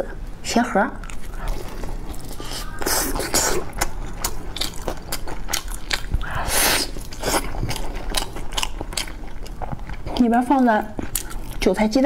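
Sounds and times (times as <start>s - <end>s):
close chewing with wet mouth sounds: 1.0s - 12.0s.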